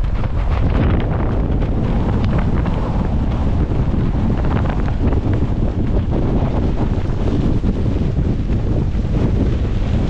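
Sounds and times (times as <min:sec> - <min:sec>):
storm wind buffeting microphone: 0:00.0 - 0:10.0
tent fabric flapping: 0:00.0 - 0:10.0.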